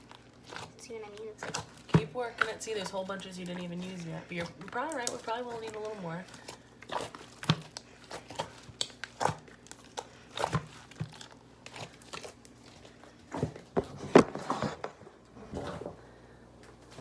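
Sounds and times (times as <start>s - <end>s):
hands kneading sticky slime: 0.0s - 13.7s.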